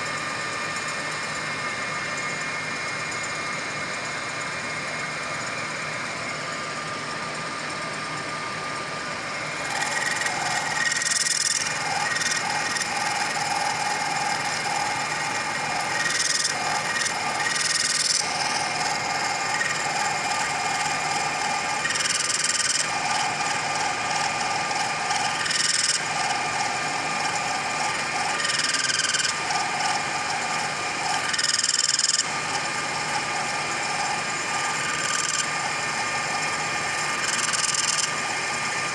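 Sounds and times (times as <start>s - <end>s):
lathe motor humming: 0.2s - 38.9s.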